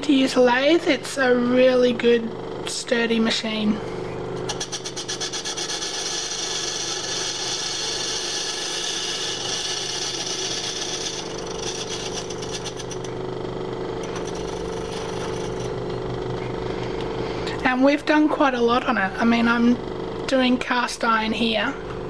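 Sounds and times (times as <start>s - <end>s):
lathe motor hum: 0.0s - 18.7s.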